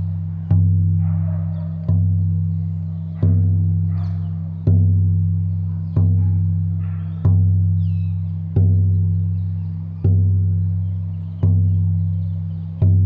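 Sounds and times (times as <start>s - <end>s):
deep drum beaten slowly: 0.0s - 13.0s.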